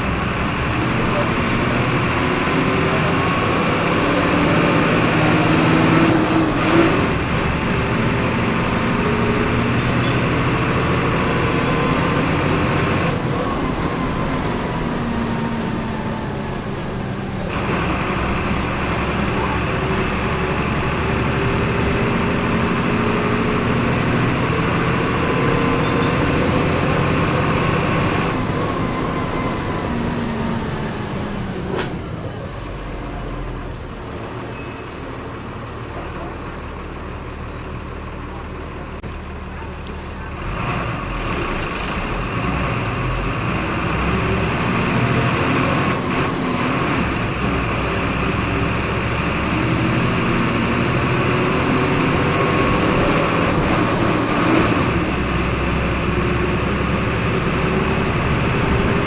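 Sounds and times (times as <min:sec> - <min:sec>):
bus diesel engine accelerating: 0:00.0 - 0:59.0.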